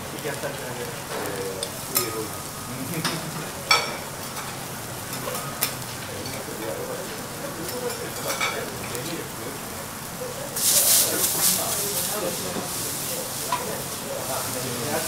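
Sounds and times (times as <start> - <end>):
sizzling on a griddle: 0.0 - 15.0.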